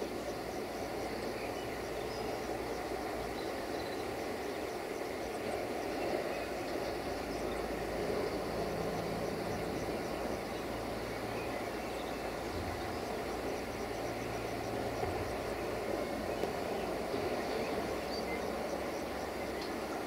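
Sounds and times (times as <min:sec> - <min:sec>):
distant train rumble: 0:00.0 - 0:20.0
low diesel engine hum: 0:00.0 - 0:20.0.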